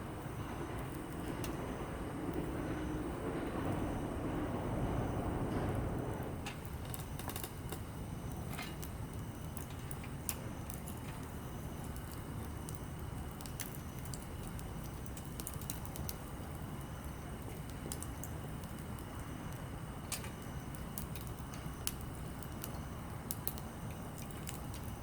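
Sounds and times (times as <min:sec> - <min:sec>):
campfire crackling and popping: 0:04.4 - 0:25.0.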